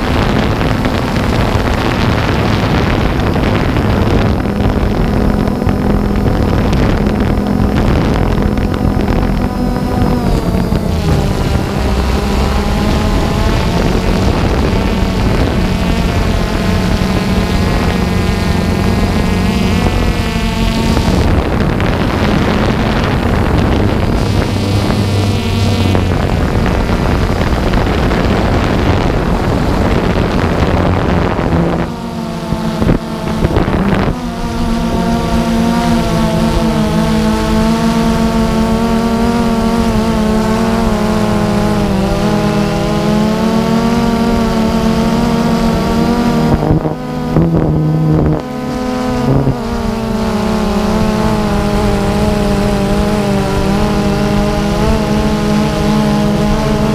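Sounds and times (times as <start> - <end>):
drone propellers buzzing: 0.0 - 56.9
wind noise on microphone: 0.0 - 56.9.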